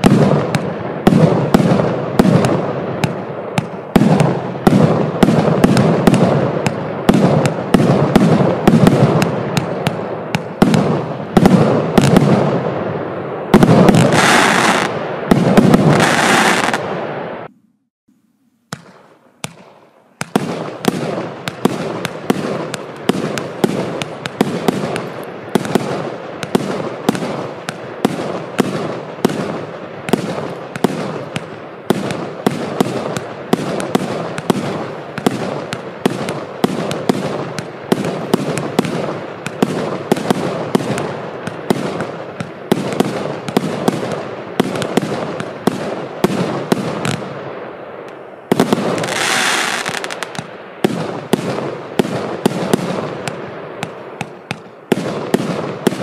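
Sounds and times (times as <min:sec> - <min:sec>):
fireworks bangs with crackling tails: 0:00.0 - 0:17.5, 0:18.6 - 0:56.0.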